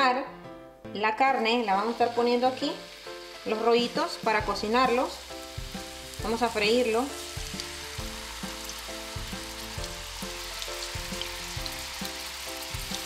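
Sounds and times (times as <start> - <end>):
light background music: 0.0 - 13.0
steak sizzling in hot oil: 1.4 - 13.0.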